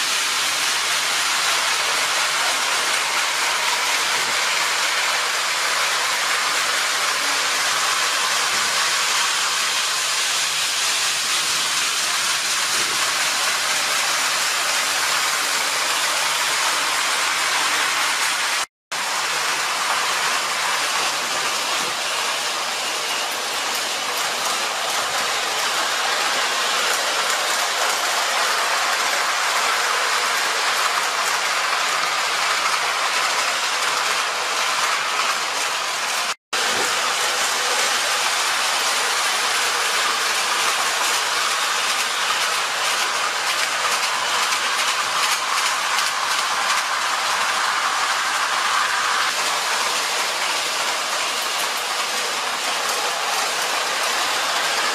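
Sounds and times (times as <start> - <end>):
model train wheels rattling on rails: 0.0 - 54.9.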